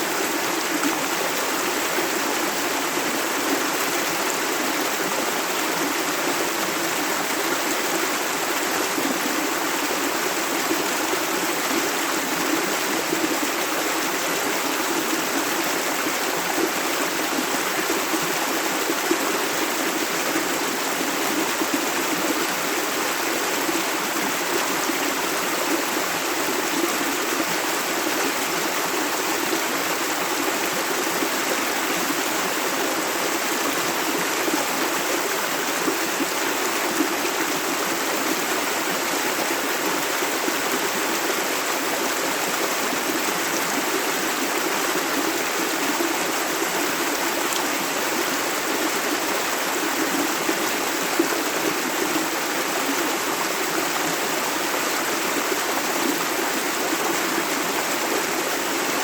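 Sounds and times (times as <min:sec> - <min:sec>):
river water running over rocks: 0:00.0 - 0:59.0.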